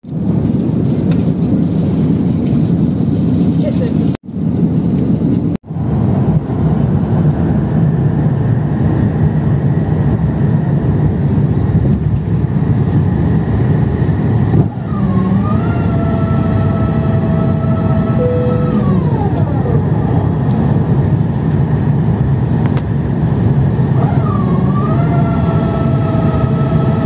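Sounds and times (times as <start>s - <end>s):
airplane cabin airflow and engine: 0.0s - 27.0s
rising whine: 4.9s - 27.0s.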